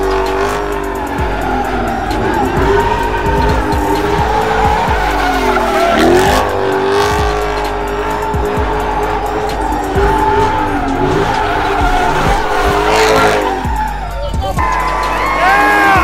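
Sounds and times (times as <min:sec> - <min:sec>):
engine revving: 0:00.0 - 0:16.0
tyres squealing on asphalt: 0:00.0 - 0:16.0.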